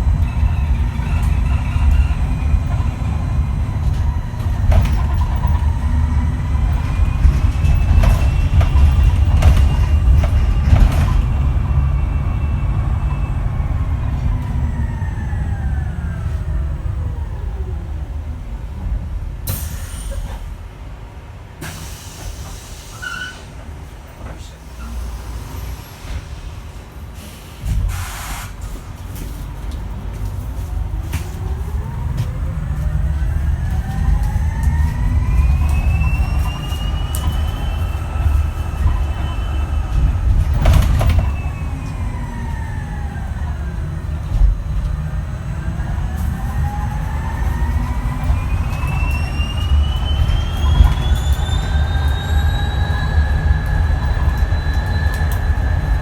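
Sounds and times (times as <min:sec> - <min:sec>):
low road rumble: 0:00.0 - 0:21.6, 0:24.0 - 0:56.0
electric bus motor whine: 0:00.0 - 0:23.4, 0:24.8 - 0:56.0.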